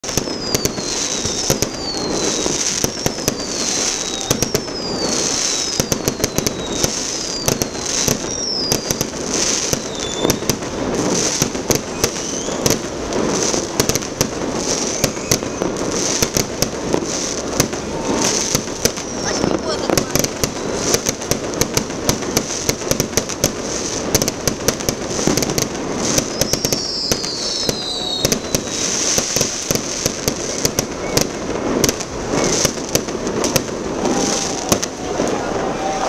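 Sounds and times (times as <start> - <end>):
falling firework whistle: 0.0 - 36.0
fireworks bangs and crackle: 0.0 - 36.0.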